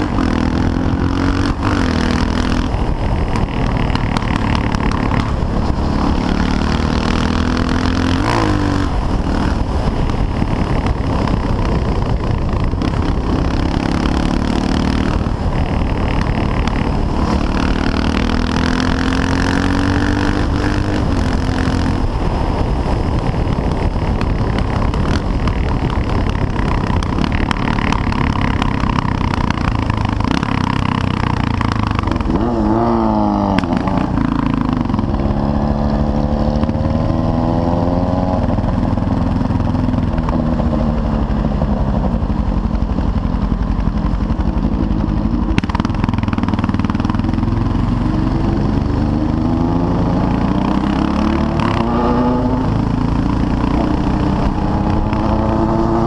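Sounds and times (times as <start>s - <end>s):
motorcycle engine running: 0.0s - 56.0s
wind rushing over camera: 0.0s - 56.0s.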